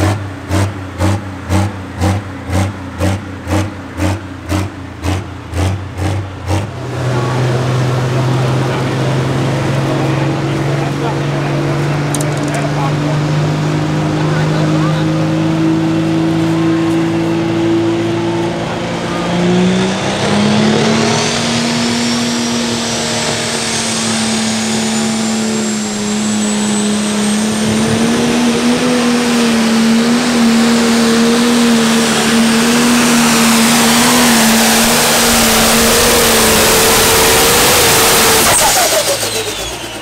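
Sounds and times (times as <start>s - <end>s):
diesel tractor engine at high revs: 0.0s - 40.0s
tyre and dirt noise: 0.0s - 40.0s.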